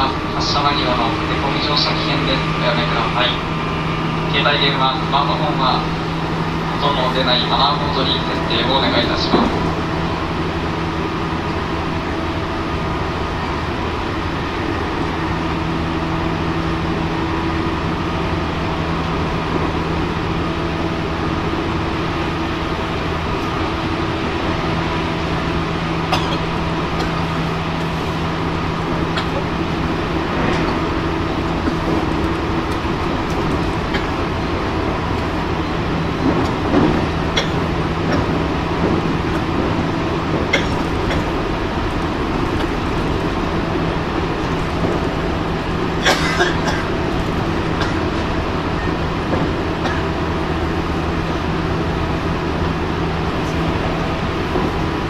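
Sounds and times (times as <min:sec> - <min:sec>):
train motor hum: 0:00.0 - 0:55.0
train wheels on rails: 0:00.0 - 0:55.0.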